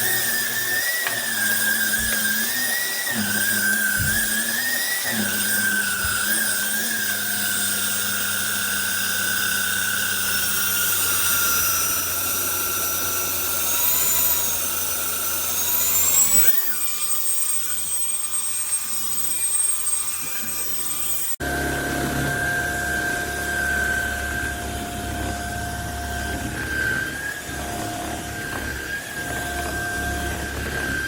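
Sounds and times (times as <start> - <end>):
vacuum cleaner motor whining: 0.0 - 31.0.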